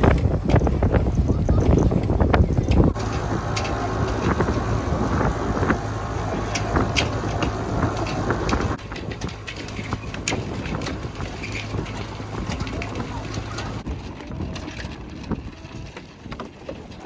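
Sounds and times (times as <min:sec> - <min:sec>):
wind buffeting microphone: 0:00.0 - 0:17.0
boat engine low hum: 0:00.1 - 0:16.6.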